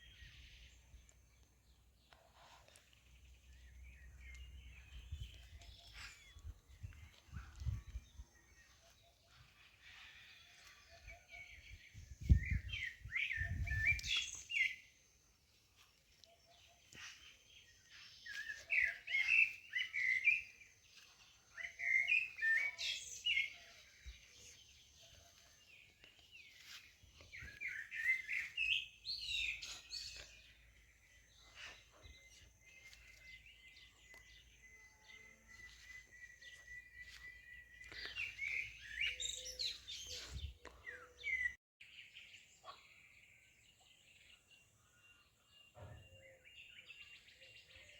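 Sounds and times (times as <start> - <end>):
songbird twittering chirps: 0.0 - 47.9.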